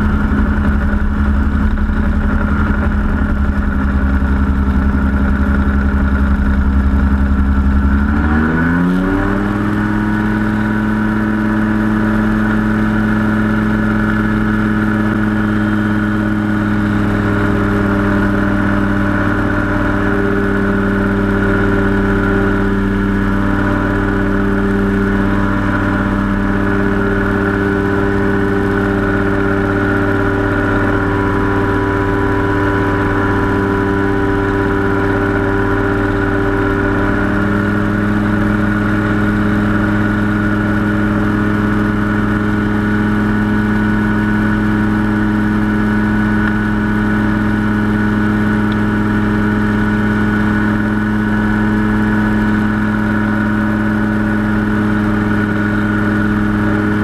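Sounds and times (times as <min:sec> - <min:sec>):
engine and propeller droning: 0:00.0 - 0:57.0.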